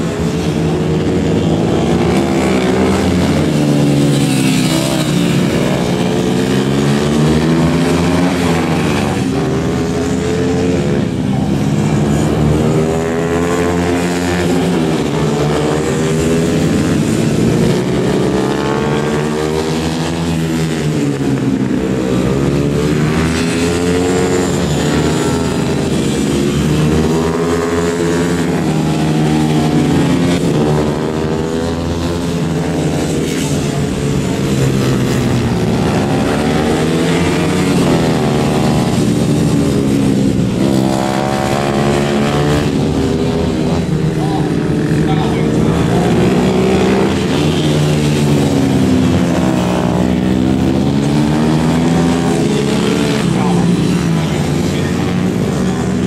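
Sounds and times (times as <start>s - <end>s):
racing motorcycle engines: 0.0s - 56.0s.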